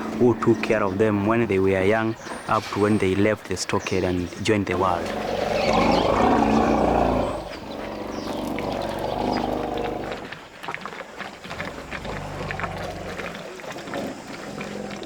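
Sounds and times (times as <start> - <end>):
elephants rumbling: 0.0 - 15.0.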